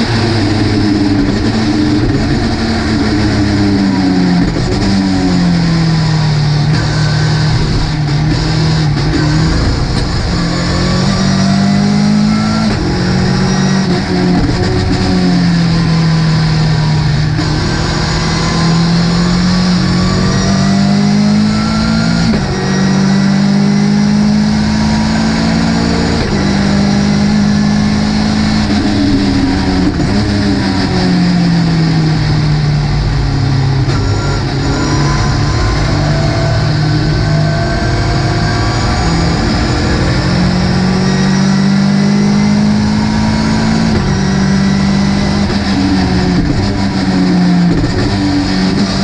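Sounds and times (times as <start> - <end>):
race car engine under load: 0.0 - 49.0.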